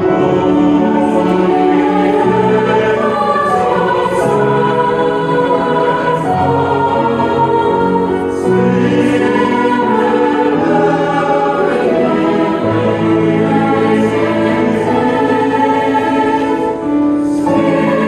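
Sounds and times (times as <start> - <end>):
choir singing in parts: 0.0 - 18.0
piano accompaniment: 0.0 - 18.0.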